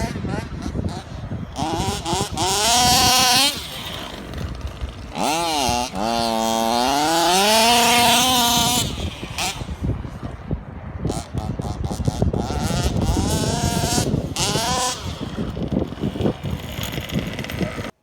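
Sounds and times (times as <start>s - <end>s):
small two-stroke engine revving: 0.0s - 18.0s.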